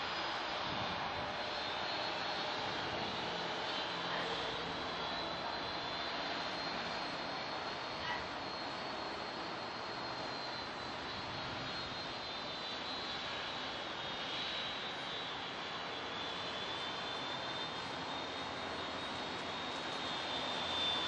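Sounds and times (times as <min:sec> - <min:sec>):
jet engines at taxi power: 0:00.0 - 0:21.0.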